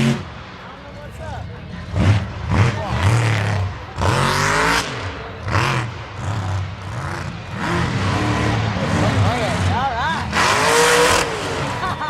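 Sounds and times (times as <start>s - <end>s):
truck engine revving: 0.0s - 0.7s, 1.5s - 12.0s.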